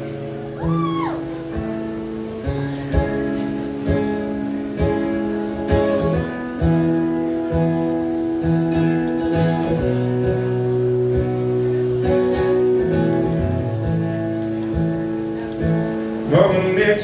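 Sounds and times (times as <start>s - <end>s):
guitar-led band instrumental: 0.0s - 17.0s.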